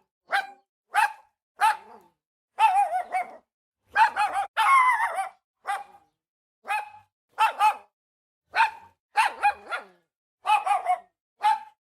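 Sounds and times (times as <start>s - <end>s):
small dog barking: 0.3s - 11.8s.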